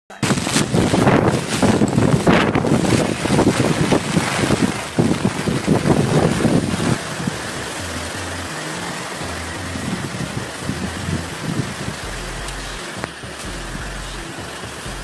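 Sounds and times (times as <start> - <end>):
strong wind gusting on microphone: 0.1 - 13.1.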